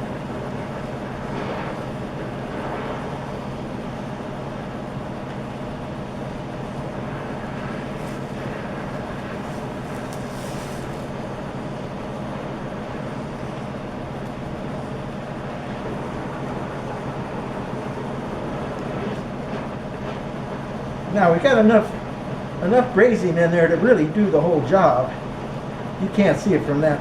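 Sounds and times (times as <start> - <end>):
gas torch burning: 0.0 - 27.0.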